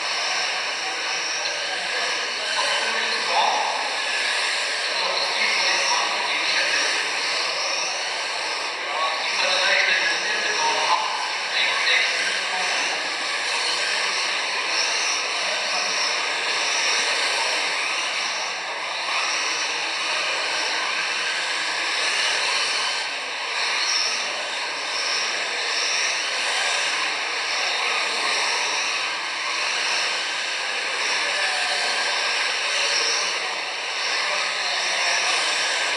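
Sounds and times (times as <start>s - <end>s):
rc cars motor whine and tyre hiss: 0.0s - 35.9s.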